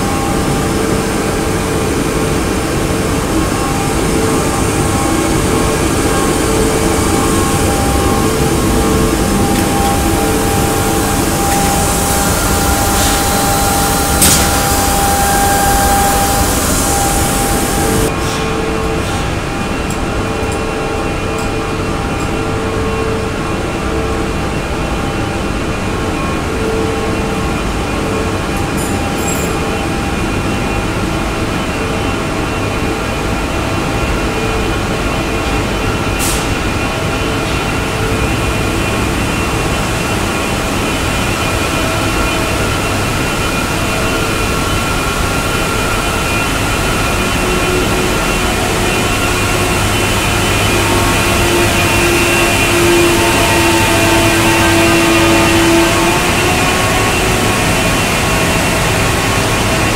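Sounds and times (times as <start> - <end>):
machine hums and whines: 0.0 - 59.9
woodworking machinery drone: 0.0 - 59.9.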